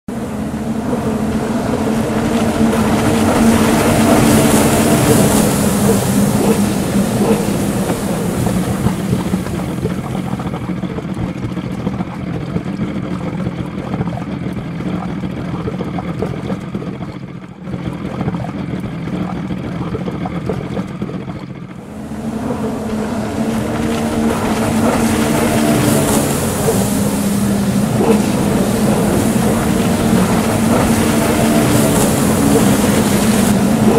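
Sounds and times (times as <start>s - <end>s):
jet ski engines racing: 0.0s - 33.9s.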